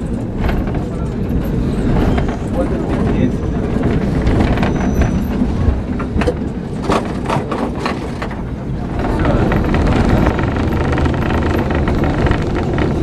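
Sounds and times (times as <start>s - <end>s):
tram rumbling: 0.0s - 13.0s
wheels clicking on rails: 0.0s - 13.0s.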